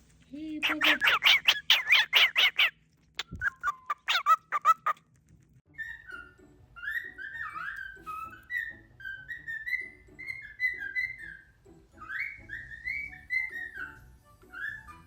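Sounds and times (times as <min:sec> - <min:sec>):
cockatiel chirping: 0:00.6 - 0:05.1, 0:05.8 - 0:15.0
cockatiel whistling a tune: 0:01.2 - 0:05.0, 0:05.7 - 0:15.0.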